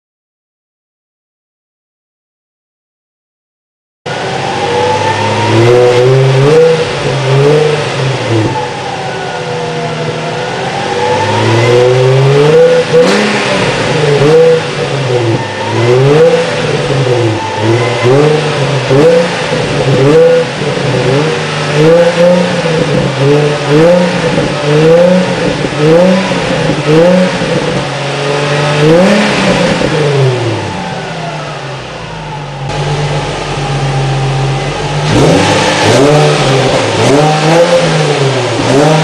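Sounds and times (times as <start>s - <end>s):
car engine revving: 4.1s - 39.0s.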